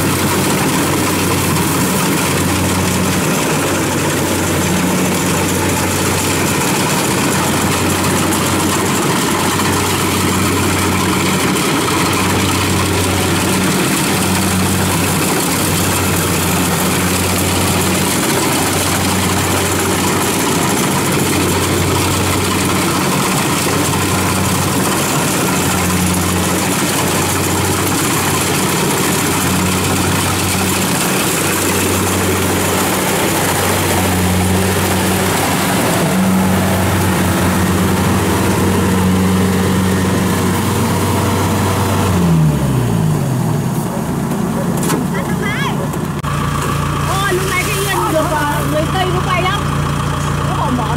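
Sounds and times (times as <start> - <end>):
combine harvester running: 0.0 - 50.9.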